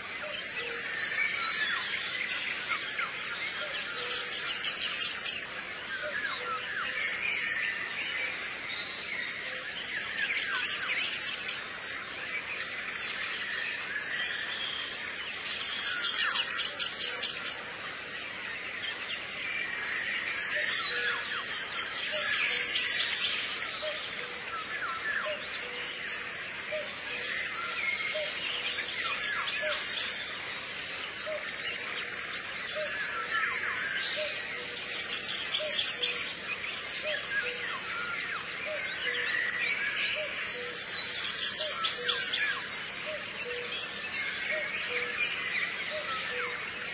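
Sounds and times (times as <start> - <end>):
songbird chirps: 0.0 - 46.9.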